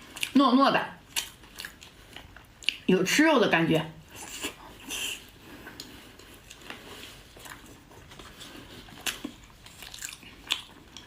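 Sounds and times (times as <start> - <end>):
person chewing: 0.0 - 0.4, 1.0 - 2.9, 4.0 - 11.0.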